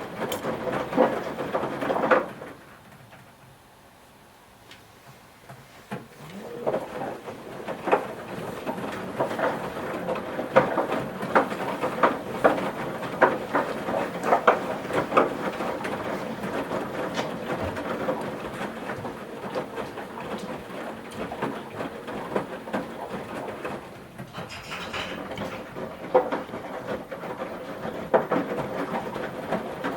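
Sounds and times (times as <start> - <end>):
laundry and water sloshing: 0.0 - 3.2, 5.1 - 29.9.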